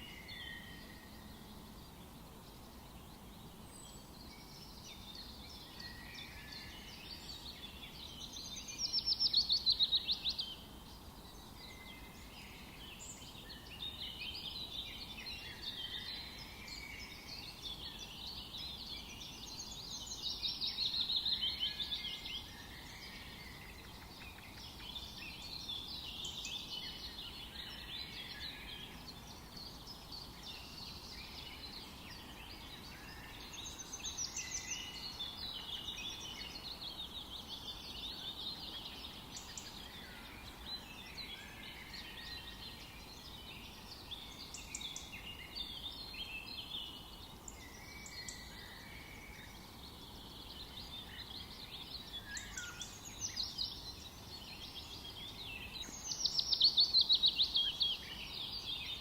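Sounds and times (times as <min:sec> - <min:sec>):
birds twittering and chirping: 0:00.0 - 0:59.0.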